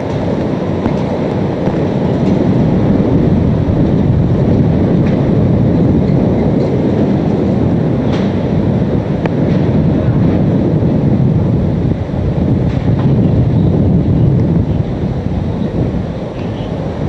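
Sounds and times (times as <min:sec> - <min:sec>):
wind and rain buffeting microphone: 0:00.0 - 0:17.0.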